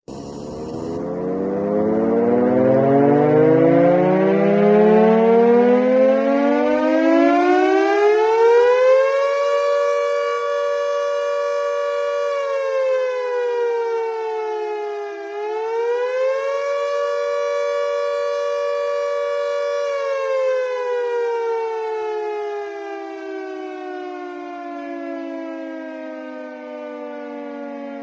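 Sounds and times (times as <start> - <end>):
civil defense siren wailing: 0.1 - 28.0.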